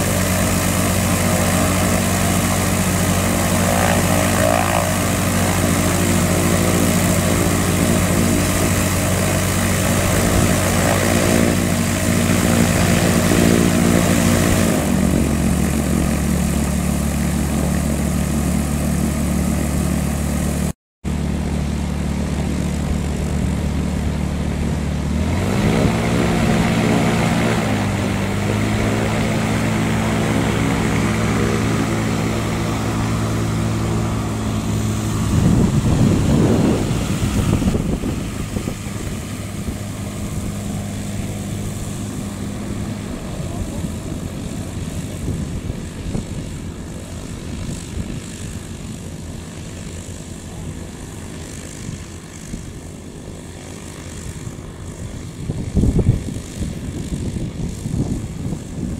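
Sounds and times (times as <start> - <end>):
propeller aircraft engine: 0.0 - 58.9
second propeller aircraft engine: 0.0 - 58.9.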